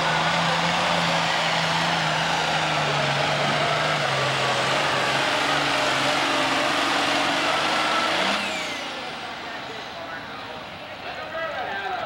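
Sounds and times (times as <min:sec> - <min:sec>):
diesel engine at full load: 0:00.0 - 0:12.0.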